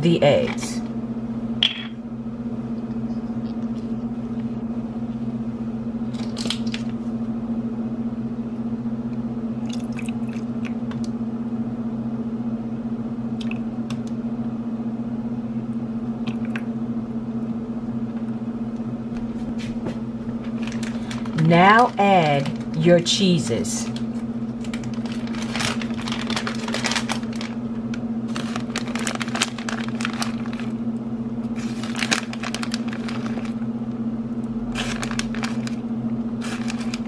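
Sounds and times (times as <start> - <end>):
low electrical hum: 0.0 - 37.0.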